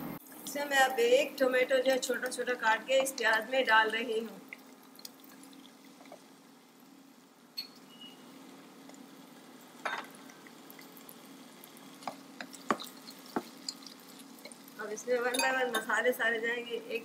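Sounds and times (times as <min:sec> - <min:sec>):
onion frying in oil: 0:00.0 - 0:17.0.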